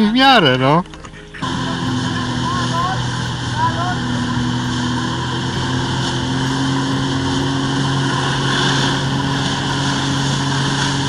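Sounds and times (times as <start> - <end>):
jet ski engine running: 0.0 - 11.0
water jets rushing spray: 1.4 - 11.0.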